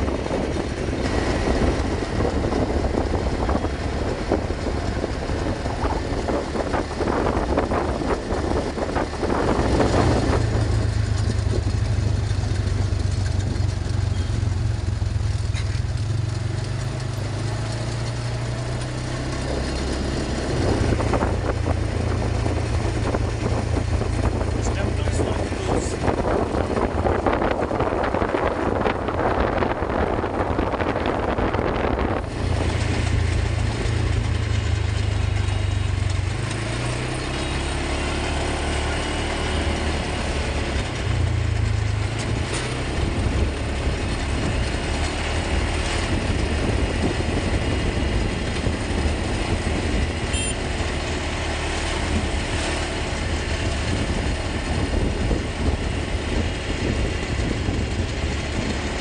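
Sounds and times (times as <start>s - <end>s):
atv engine rumbling: 0.0s - 59.0s.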